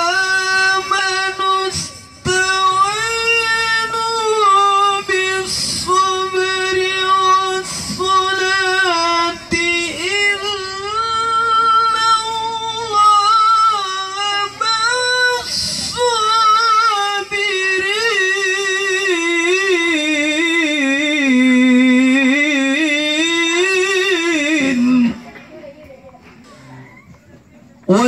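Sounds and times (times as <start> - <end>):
man reciting melodically: 0.0 - 25.2.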